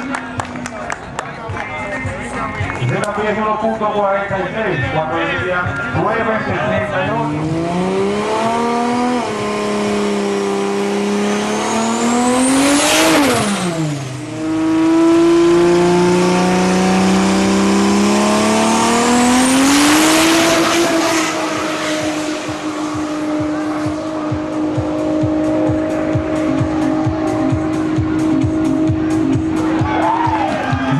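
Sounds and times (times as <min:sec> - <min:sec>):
drag racing car engine accelerating: 0:05.2 - 0:30.9.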